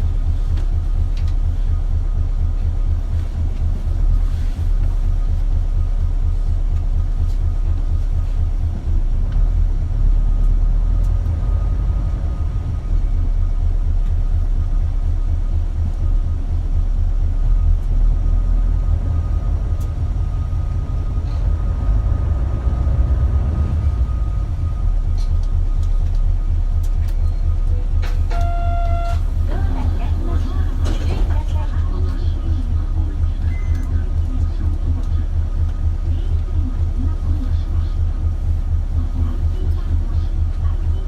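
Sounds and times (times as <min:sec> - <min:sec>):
bus engine rumble: 0:00.0 - 0:41.0.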